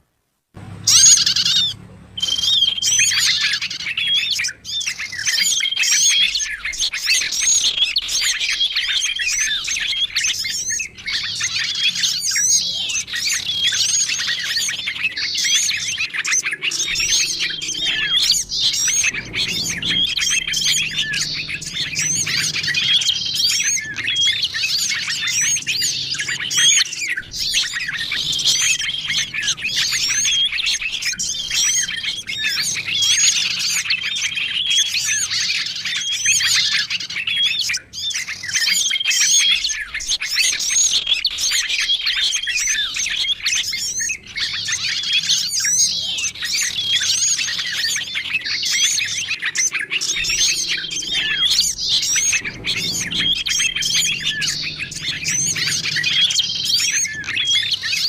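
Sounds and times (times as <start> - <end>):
songbirds chirping and twittering: 0.6 - 58.0.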